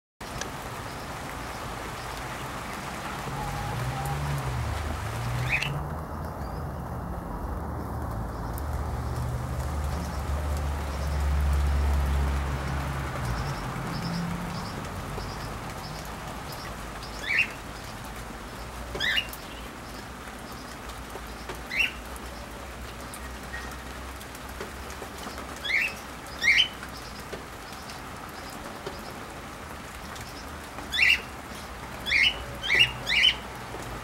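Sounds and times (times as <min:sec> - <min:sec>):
birds chirping: 0:00.2 - 0:06.9, 0:09.8 - 0:23.9, 0:24.9 - 0:33.8
rain falling: 0:00.2 - 0:34.0.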